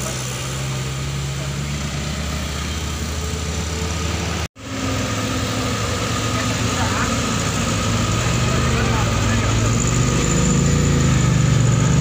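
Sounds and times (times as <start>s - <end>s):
road traffic engines droning: 0.0s - 12.0s
steady engine hum: 0.0s - 12.0s.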